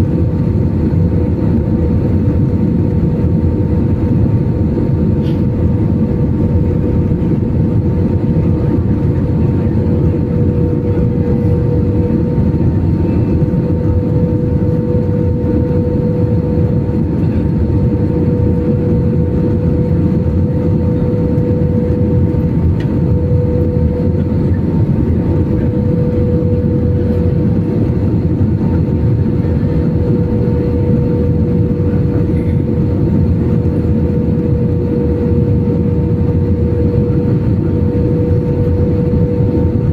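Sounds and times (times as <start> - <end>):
airliner engine drone: 0.0 - 39.9
steady hum: 0.0 - 39.9.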